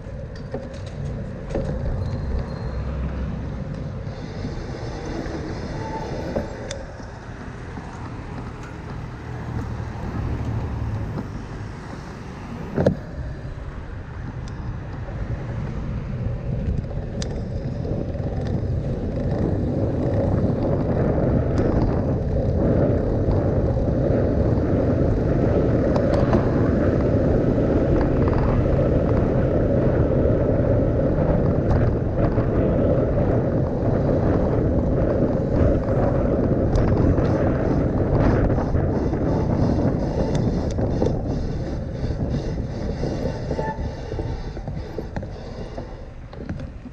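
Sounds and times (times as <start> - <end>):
rushing noise of bicycle ride: 0.0 - 46.9.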